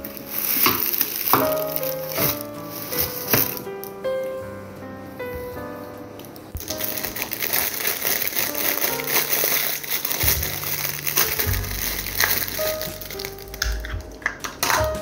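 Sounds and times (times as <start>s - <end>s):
plastic packaging crinkling: 0.0s - 3.8s, 6.6s - 15.0s
background music: 0.0s - 15.0s.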